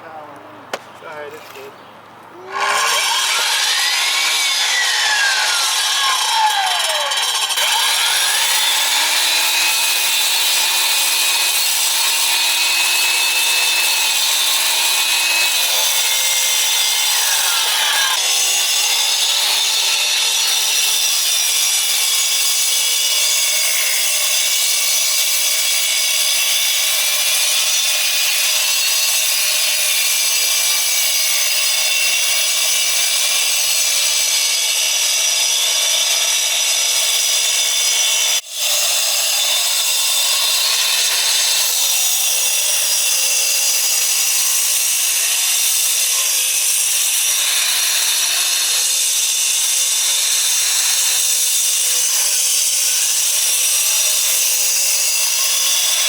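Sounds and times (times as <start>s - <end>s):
concrete saw cutting concrete: 2.4s - 56.0s.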